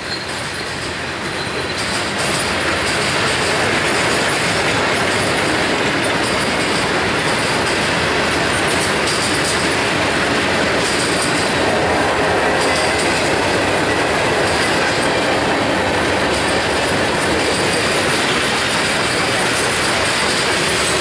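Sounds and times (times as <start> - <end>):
freight train wheels clattering: 0.0 - 21.0.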